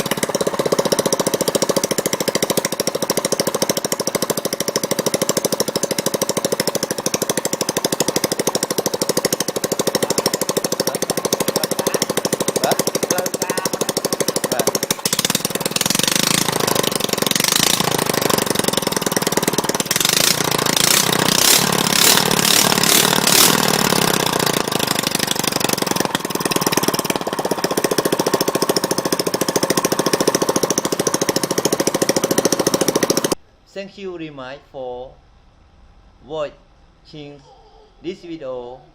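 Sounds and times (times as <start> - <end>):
small gasoline engine running: 0.0 - 33.4.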